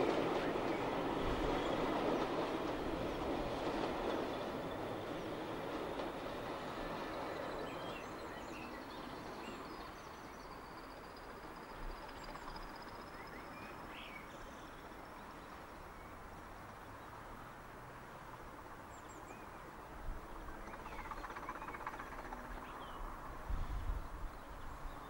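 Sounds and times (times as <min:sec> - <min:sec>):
passing train: 0:00.0 - 0:25.0.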